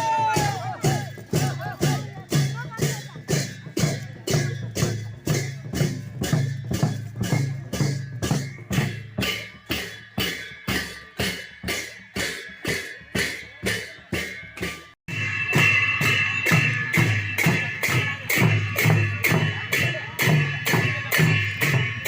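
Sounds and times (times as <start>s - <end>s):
drums beating steady rhythm: 0.0s - 22.0s.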